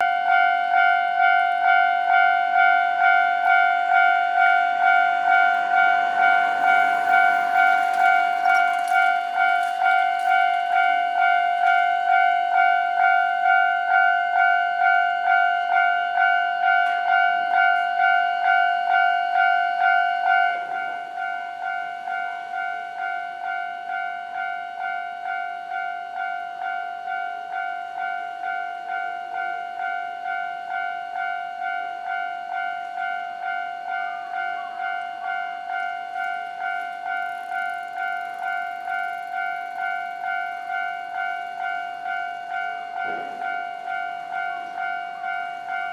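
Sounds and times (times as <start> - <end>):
level crossing warning bell: 0.0 - 45.9.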